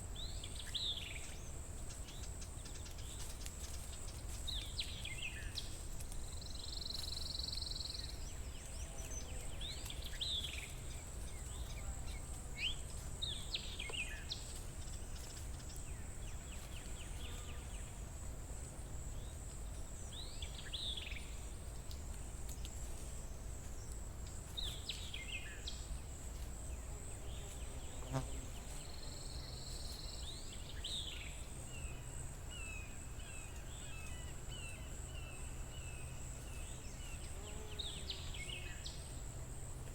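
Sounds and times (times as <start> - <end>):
songbirds calling: 0.0 - 18.1, 19.1 - 39.9.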